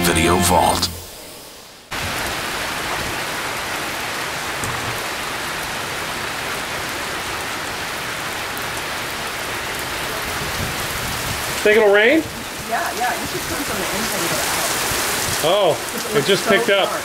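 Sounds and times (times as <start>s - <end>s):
heavy rain on pavement and cars: 1.2s - 17.0s.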